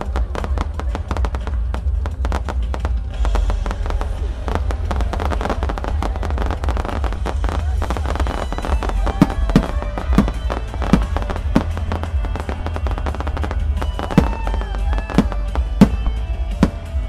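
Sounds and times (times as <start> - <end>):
firework crackling: 0.0 - 17.0
firework shells bursting: 0.0 - 17.0
low rumble: 0.0 - 17.0
music: 0.0 - 17.0.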